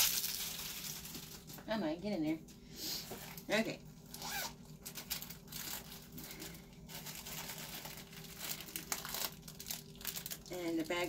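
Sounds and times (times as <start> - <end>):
packaging crinkling and rustling: 0.0 - 1.7, 3.2 - 11.0.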